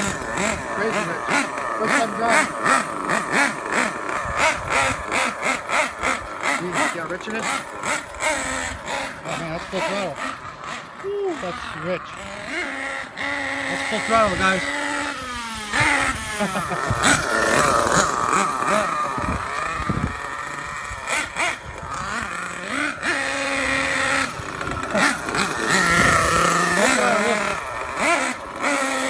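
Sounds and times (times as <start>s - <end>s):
nitro engine revving: 0.0s - 29.0s.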